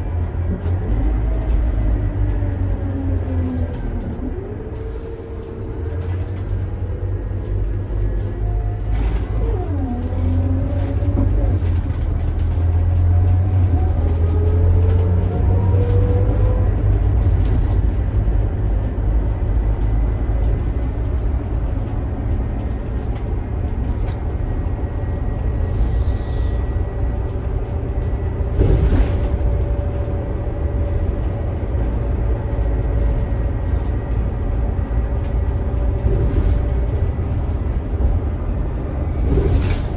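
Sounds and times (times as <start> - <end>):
bus engine rumble and whine: 0.0 - 39.9.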